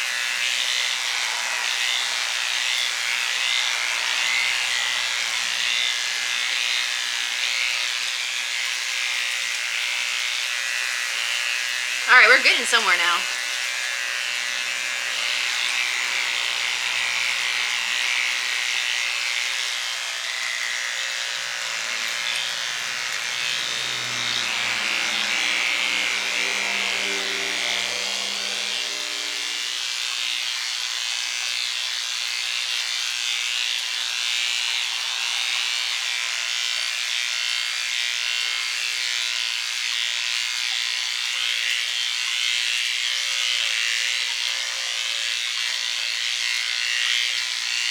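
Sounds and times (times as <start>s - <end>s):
electric hair clippers buzzing: 0.0s - 47.9s.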